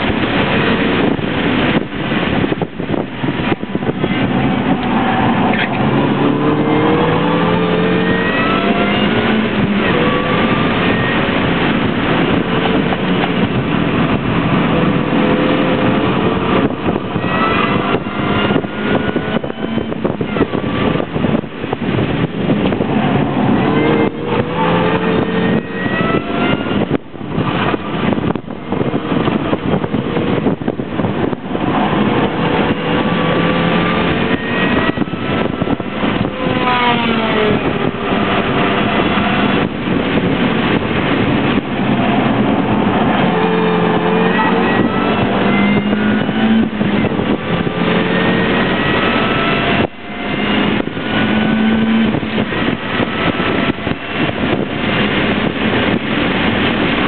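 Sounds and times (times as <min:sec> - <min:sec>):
car engine revving through gears: 0:00.0 - 0:57.0
road and wind noise: 0:00.0 - 0:57.0.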